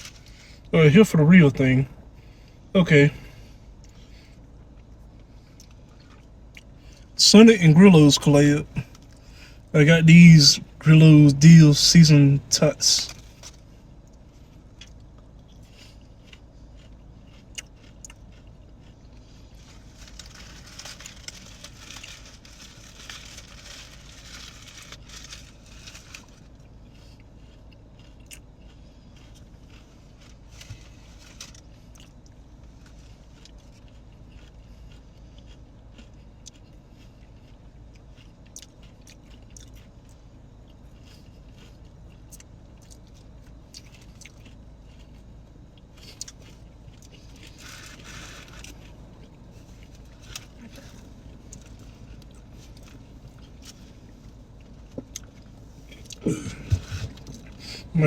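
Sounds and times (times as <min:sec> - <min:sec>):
chewing crispy food: 0:00.0 - 0:09.8, 0:12.8 - 0:58.0.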